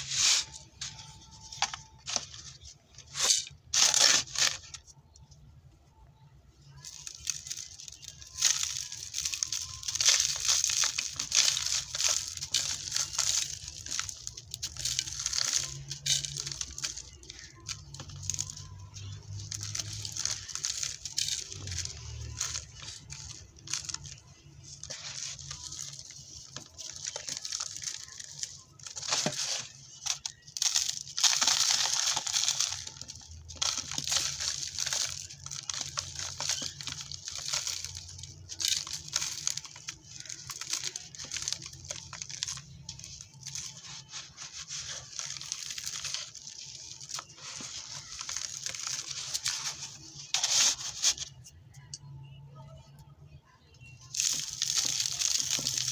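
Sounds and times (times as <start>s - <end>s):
dry dirt crumbling and crunching: 6.7s - 51.3s, 54.1s - 55.9s.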